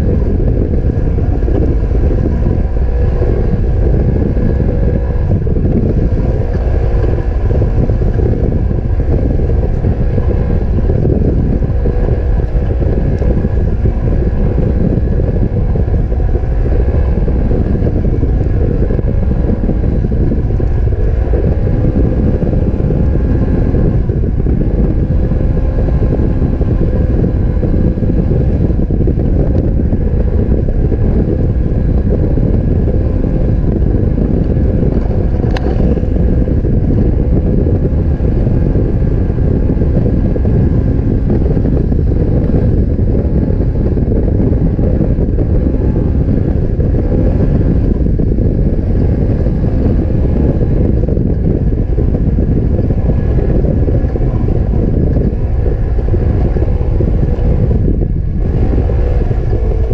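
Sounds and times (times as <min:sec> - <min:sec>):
vehicle engine running: 0:00.0 - 0:59.9
wind rumble on microphone: 0:00.0 - 0:59.9.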